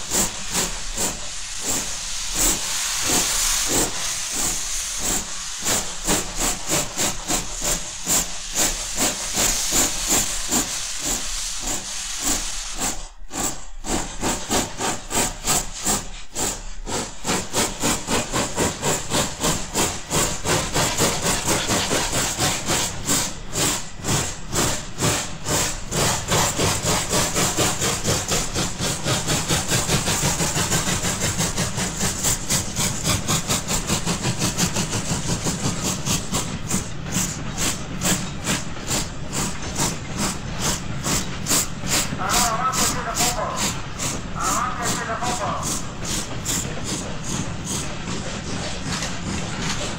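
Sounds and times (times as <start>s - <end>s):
hissing steam: 0.0s - 49.9s
steam locomotive exhaust beats: 0.0s - 49.9s.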